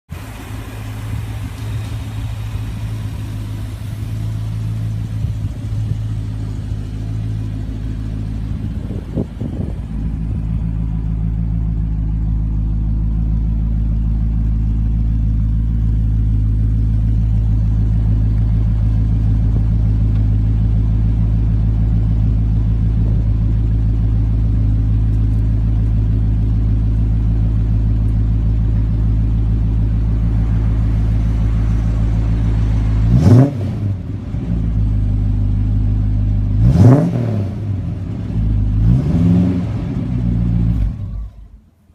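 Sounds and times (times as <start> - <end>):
car engine running: 0.1 - 41.9.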